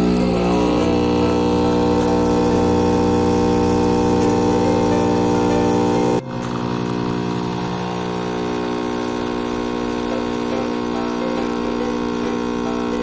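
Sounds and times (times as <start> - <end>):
espresso machine pump humming: 0.0 - 13.0.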